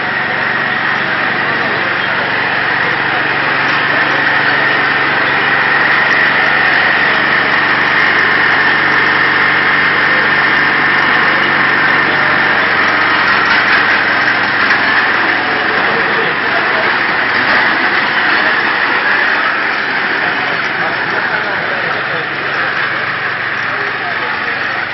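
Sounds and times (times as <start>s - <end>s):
small model engine running: 0.0s - 24.9s.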